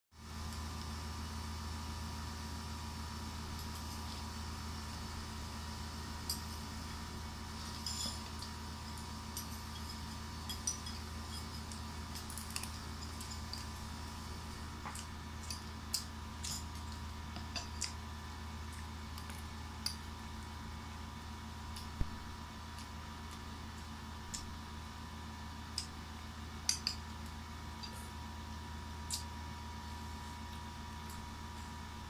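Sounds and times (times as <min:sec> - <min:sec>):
steady low hum: 0:00.2 - 0:32.0.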